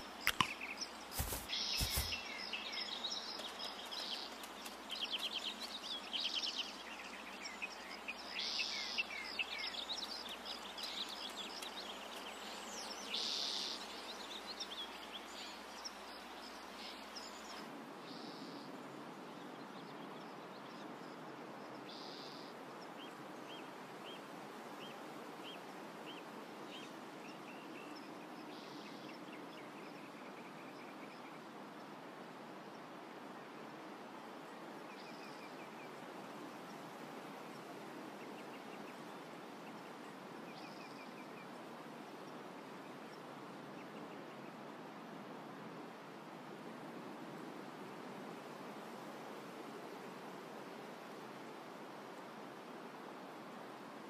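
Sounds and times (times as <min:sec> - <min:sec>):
outdoor ambient hiss: 0:00.0 - 0:54.0.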